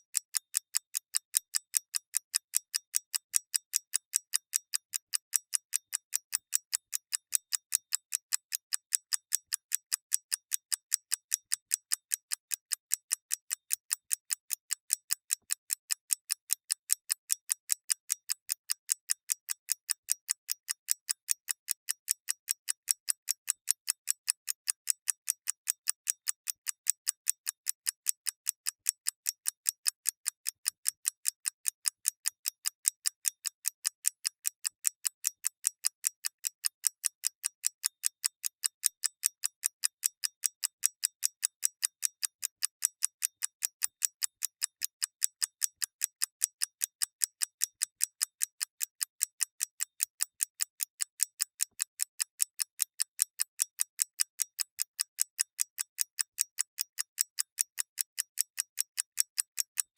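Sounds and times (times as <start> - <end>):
mechanical clock ticking: 0.0 - 59.9.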